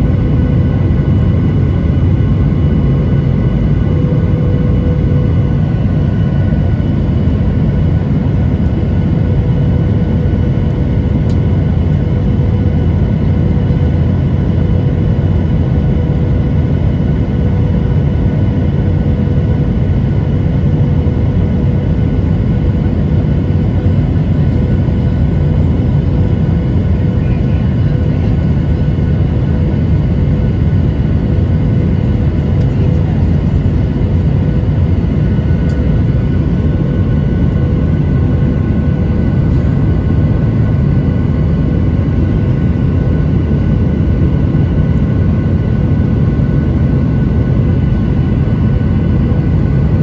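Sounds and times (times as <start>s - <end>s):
jet engines rumbling and whining: 0.0s - 50.0s.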